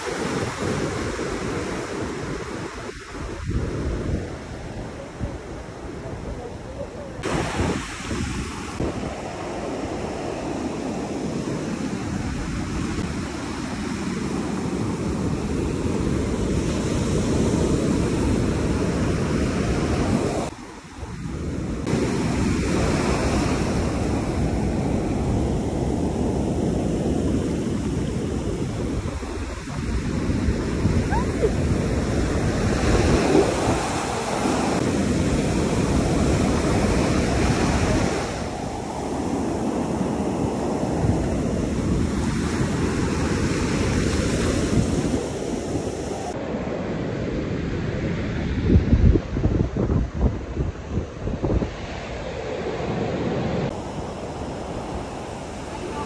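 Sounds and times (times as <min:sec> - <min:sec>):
ocean surf on beach: 0:00.0 - 0:56.0.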